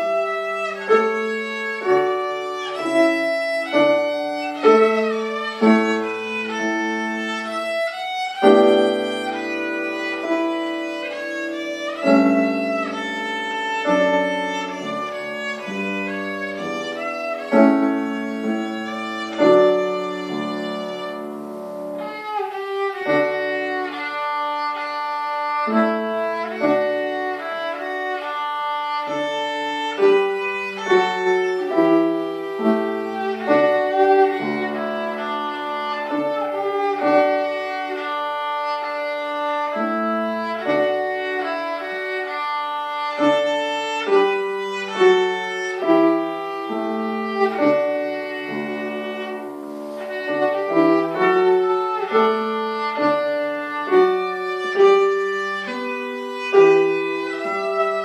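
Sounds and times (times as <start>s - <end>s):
bowed violin melody: 0.0s - 58.0s
piano accompaniment: 0.0s - 58.0s.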